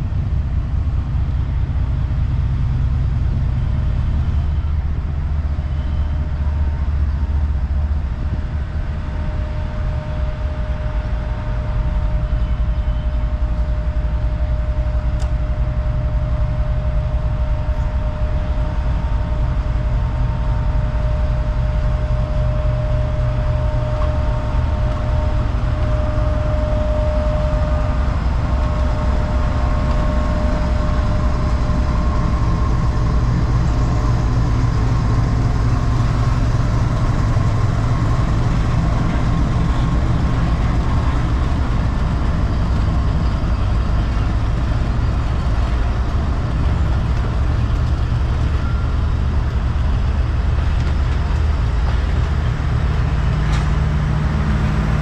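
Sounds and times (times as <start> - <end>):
faint steady whine: 0.0 - 55.0
locomotive engine rumbling: 0.0 - 55.0.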